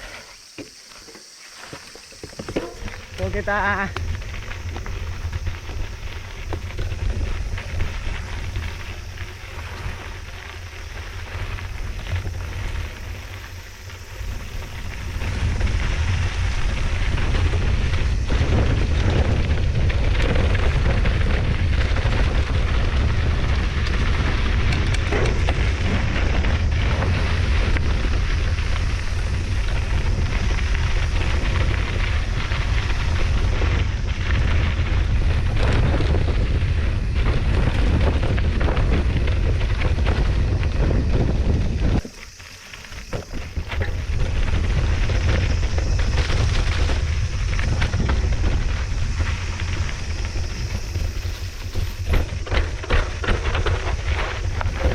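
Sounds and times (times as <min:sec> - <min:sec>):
mountain bike rattling on dirt trail: 0:00.0 - 0:54.9
bike knocking over rough ground: 0:00.1 - 0:54.9
wind buffeting microphone: 0:02.2 - 0:54.9.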